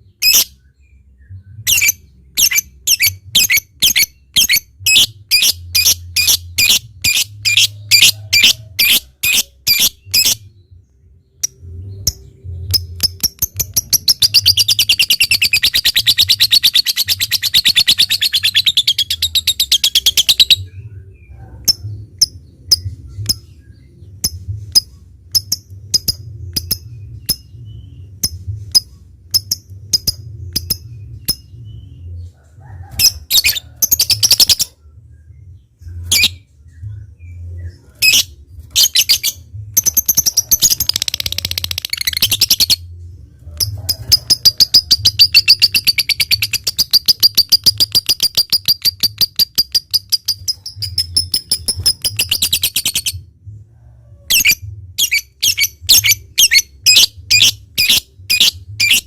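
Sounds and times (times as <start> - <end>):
lovebird chirping and chattering: 0.1 - 0.6, 1.6 - 10.5, 11.4 - 32.0, 33.0 - 34.7, 35.9 - 36.8, 37.6 - 42.9, 43.6 - 53.2, 54.3 - 59.0.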